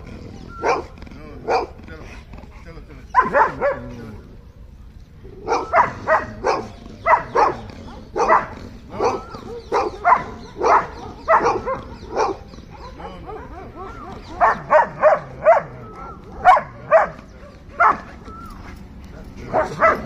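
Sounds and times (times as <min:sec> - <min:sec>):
dog barking angrily: 0:00.0 - 0:01.8, 0:03.1 - 0:04.3, 0:05.4 - 0:20.0.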